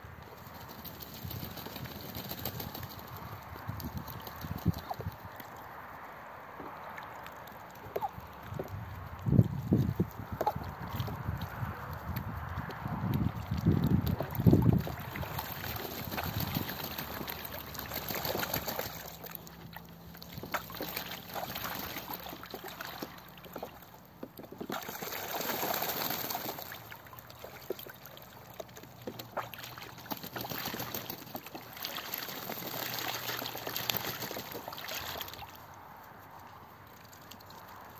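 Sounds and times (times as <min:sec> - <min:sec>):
ducks splashing in water: 0:00.3 - 0:35.7, 0:36.6 - 0:37.9.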